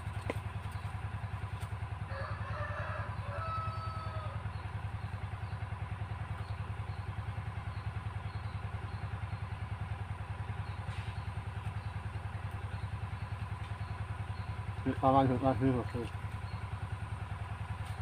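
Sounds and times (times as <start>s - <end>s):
diesel pump engine chugging: 0.0s - 18.0s.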